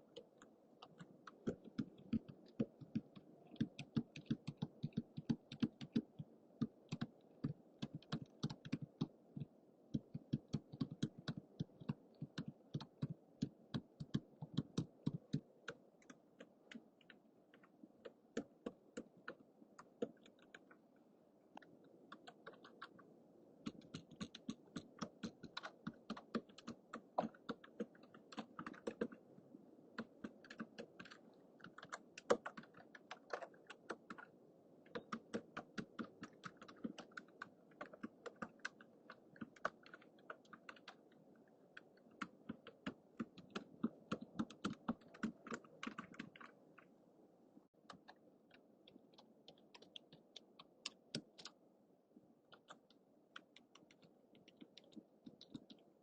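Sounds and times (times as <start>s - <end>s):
typing on computer keyboard: 0.1s - 20.8s, 21.6s - 23.0s, 23.6s - 29.2s, 30.0s - 46.9s, 47.9s - 51.6s, 52.5s - 55.9s.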